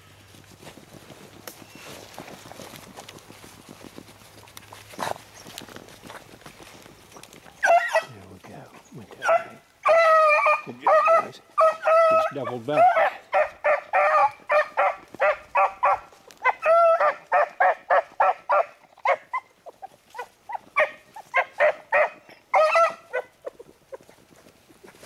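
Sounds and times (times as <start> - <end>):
beagles baying: 1.6 - 25.0.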